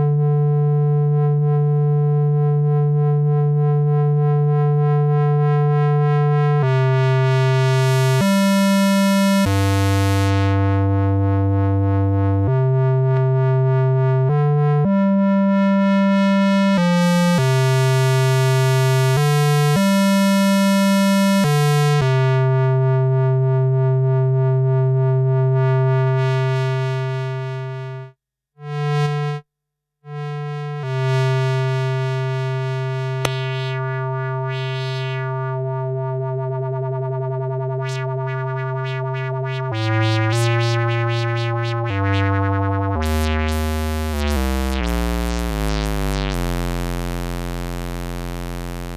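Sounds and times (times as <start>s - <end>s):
buzzy synthesizer notes: 0.0s - 22.6s, 28.6s - 29.4s, 30.1s - 48.9s.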